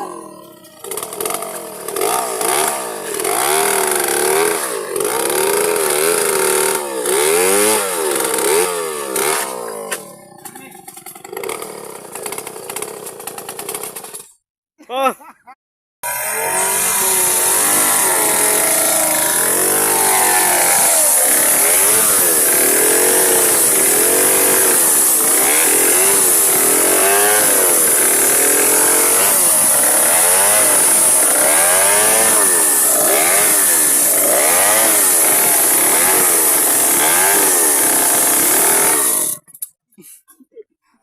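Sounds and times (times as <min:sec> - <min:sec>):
chainsaw engine revving: 0:00.0 - 0:14.4, 0:16.0 - 0:39.5.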